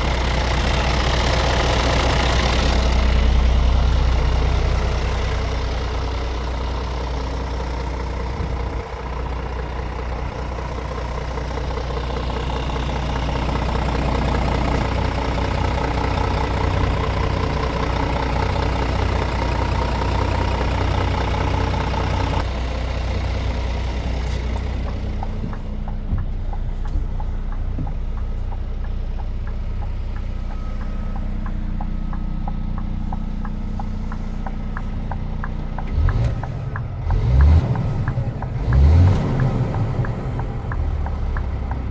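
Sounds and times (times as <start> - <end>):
diesel truck engine idling: 0.0 - 41.9
ticking engine: 0.0 - 41.9.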